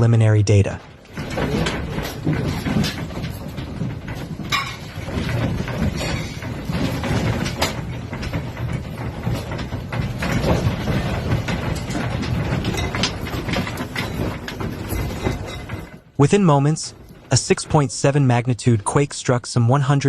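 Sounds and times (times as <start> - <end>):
objects rattling and clattering: 0.6 - 19.0.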